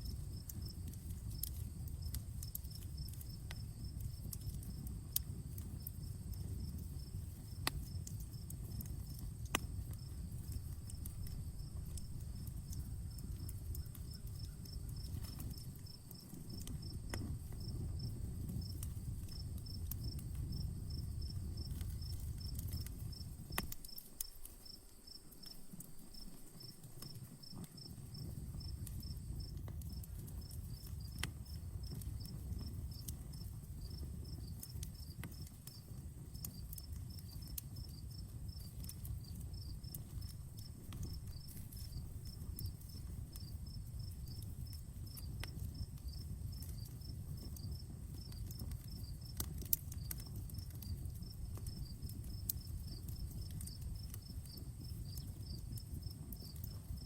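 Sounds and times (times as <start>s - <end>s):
crickets chirping: 0.0s - 49.4s, 50.0s - 57.0s
campfire crackling and popping: 0.0s - 57.0s.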